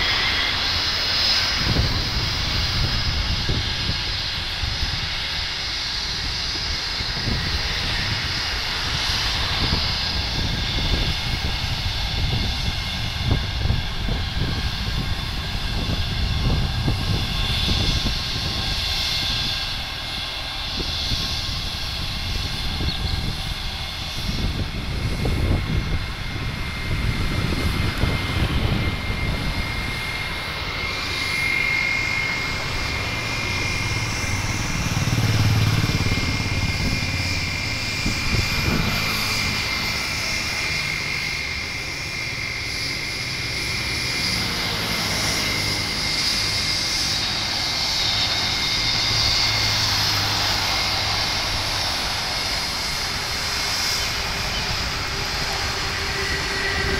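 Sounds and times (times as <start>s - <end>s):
jet engine distant whine: 0.0s - 56.9s.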